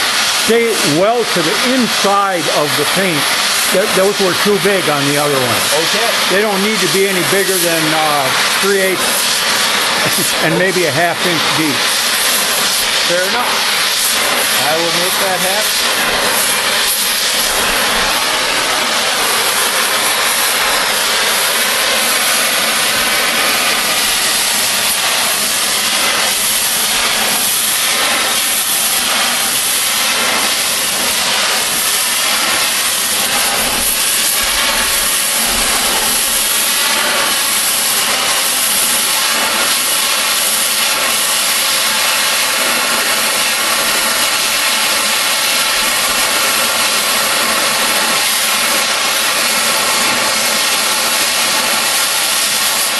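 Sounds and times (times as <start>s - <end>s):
cutting torch hissing: 0.0s - 52.9s.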